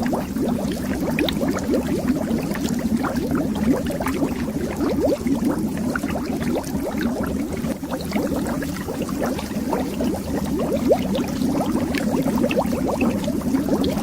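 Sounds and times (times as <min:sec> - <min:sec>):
water bubbling underwater: 0:00.0 - 0:14.0.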